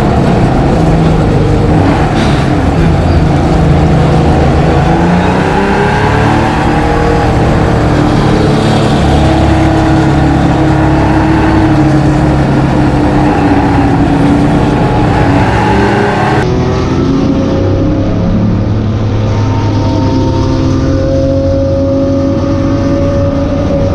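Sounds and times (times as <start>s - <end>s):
race car engine at high revs: 0.0s - 23.9s.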